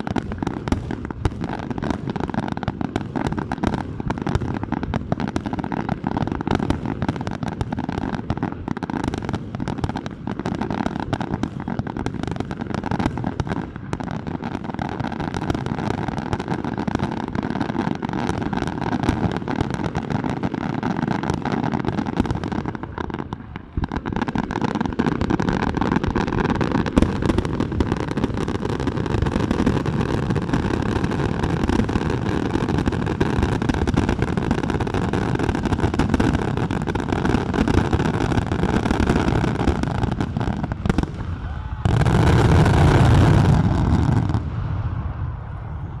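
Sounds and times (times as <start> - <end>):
fireworks bursting and crackling: 0.0 - 46.0
fireworks rumble: 0.0 - 46.0.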